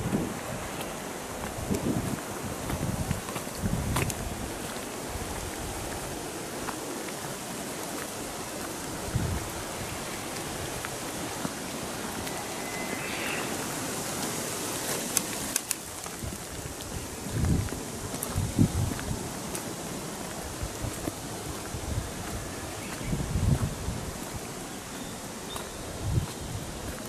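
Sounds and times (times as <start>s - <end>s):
light rain hissing: 0.0s - 27.0s.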